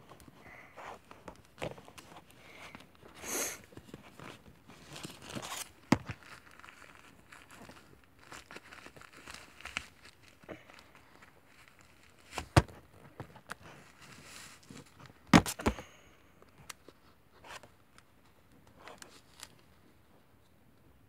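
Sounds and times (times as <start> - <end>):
toy doll handling clicks and rustles: 0.0 - 15.8, 16.4 - 19.9.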